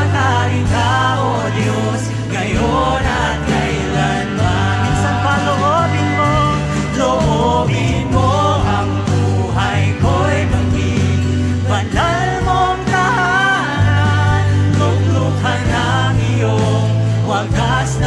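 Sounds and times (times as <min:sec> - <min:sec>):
acoustic guitar: 0:00.0 - 0:18.0
drums: 0:00.0 - 0:18.0
electric guitars: 0:00.0 - 0:18.0
voices singing: 0:00.0 - 0:18.0.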